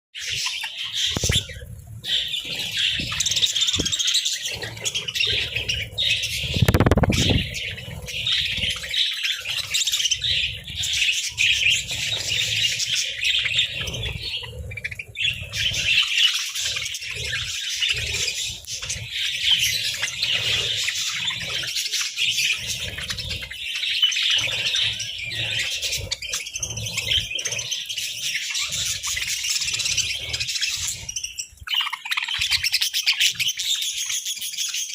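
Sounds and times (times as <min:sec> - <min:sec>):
budgerigars chirping: 0:00.2 - 0:34.9.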